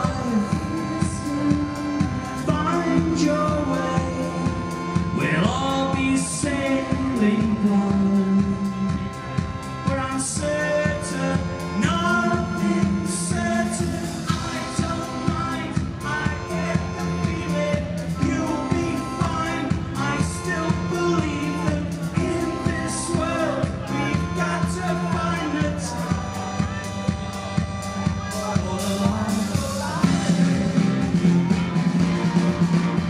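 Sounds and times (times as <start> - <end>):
person singing: 0.0 - 9.2, 9.9 - 32.4
bass guitar: 0.0 - 33.0
steady drum beat: 0.0 - 33.0.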